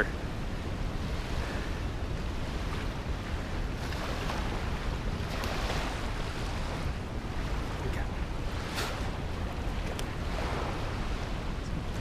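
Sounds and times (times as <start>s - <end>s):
waves washing on shore: 0.0s - 12.0s
wind buffeting microphone: 0.0s - 12.0s.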